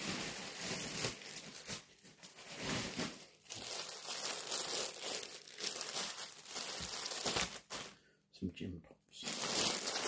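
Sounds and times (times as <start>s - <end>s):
plastic bag crinkling: 0.0s - 8.0s, 9.2s - 10.0s.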